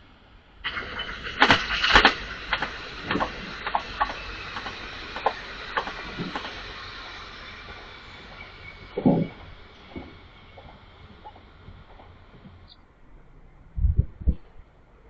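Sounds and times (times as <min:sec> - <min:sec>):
sharp clicks and knocks of train: 0:00.0 - 0:13.3
train passing: 0:00.0 - 0:13.8.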